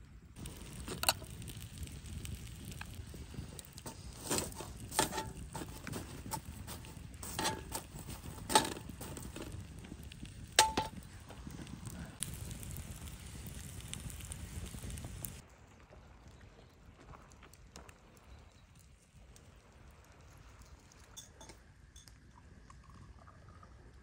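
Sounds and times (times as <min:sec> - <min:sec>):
campfire crackling: 0:00.0 - 0:22.4
fire popping loudly: 0:00.2 - 0:21.4.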